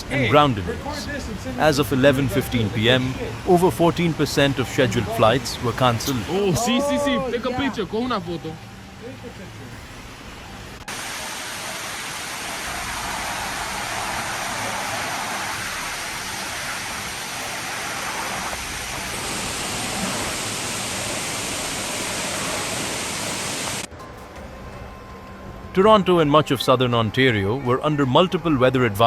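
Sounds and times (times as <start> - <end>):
water rushing: 0.0 - 23.9.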